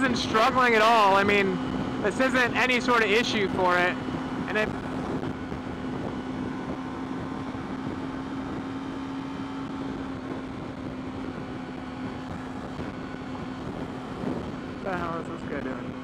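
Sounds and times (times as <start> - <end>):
motorcycle engine cruising: 0.0 - 16.0
wind rushing on microphone: 0.0 - 16.0.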